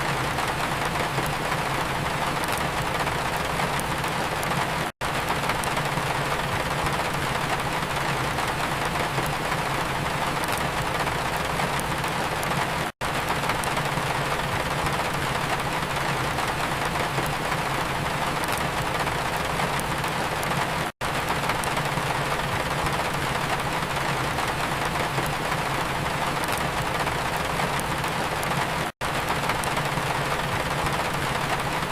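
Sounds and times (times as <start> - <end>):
steady rain: 0.0 - 31.9
wood fire crackling: 0.0 - 31.9.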